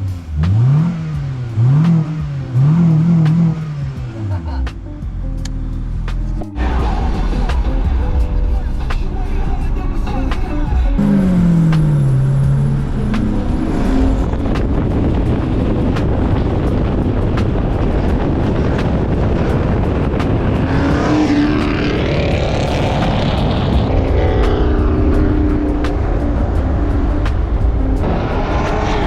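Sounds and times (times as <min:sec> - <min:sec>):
car engine and exhaust: 0:00.0 - 0:29.0.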